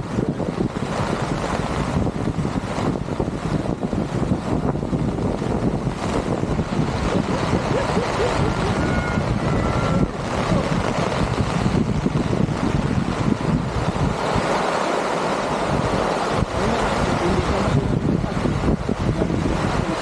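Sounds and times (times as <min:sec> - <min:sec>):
wind gusting against microphone: 0:00.0 - 0:20.0.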